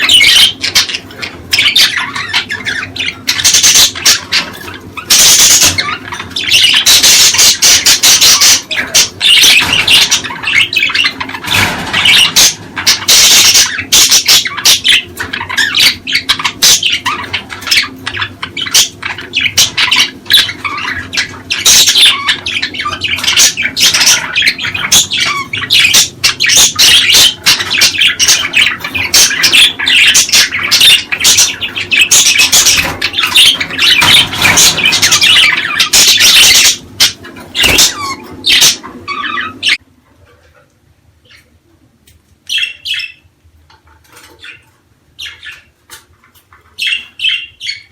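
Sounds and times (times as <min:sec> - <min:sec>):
budgerigars chattering and squawking: 0:00.0 - 0:41.6, 0:42.5 - 0:47.9.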